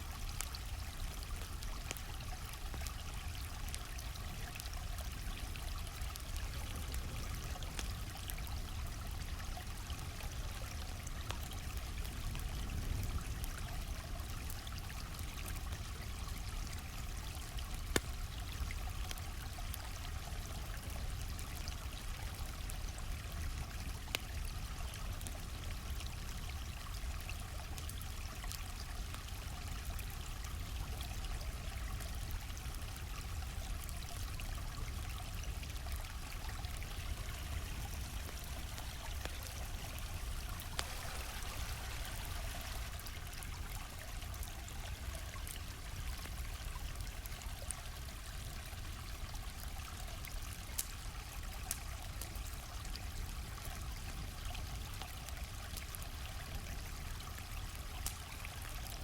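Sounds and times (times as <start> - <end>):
campfire crackling: 0.0 - 59.0
stream flowing: 0.0 - 59.0.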